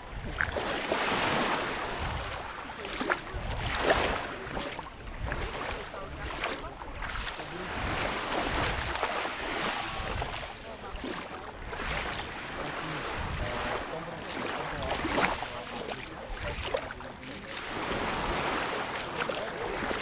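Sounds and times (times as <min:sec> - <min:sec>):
waves washing over pebbles: 0:00.0 - 0:20.0.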